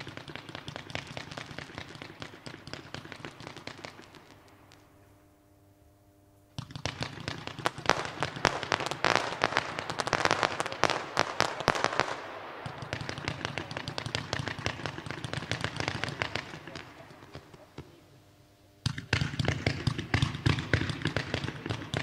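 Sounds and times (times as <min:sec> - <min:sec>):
fireworks crackling and popping: 0:00.0 - 0:05.5, 0:06.4 - 0:18.2, 0:18.8 - 0:22.0.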